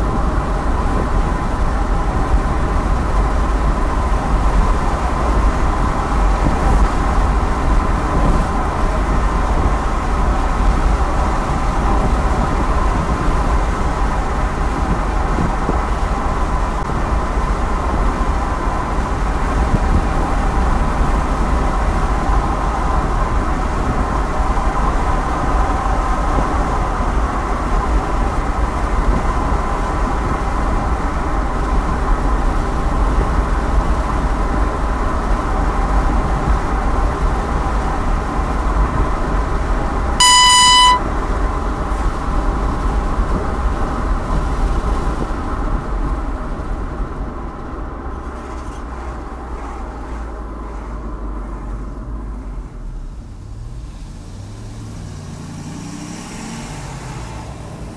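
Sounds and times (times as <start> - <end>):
car road noise rumble: 0.0 - 57.9.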